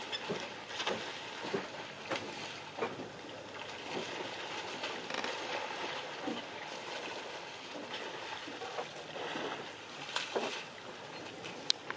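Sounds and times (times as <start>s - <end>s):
elephants splashing water: 0.0s - 11.6s.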